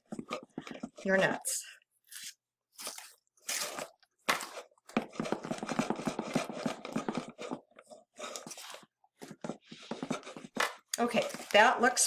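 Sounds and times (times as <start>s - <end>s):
wooden spoon scraping saucepan: 0.0s - 3.9s, 4.5s - 11.7s.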